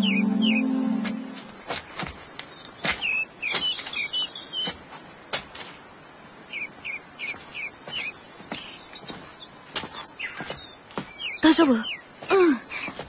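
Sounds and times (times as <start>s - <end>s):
small birds chirping: 0.0s - 5.3s, 6.2s - 13.0s.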